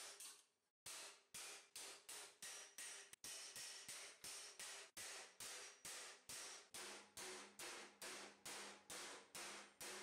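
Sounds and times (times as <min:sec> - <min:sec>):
hammer striking steel plate: 0:00.0 - 0:10.0.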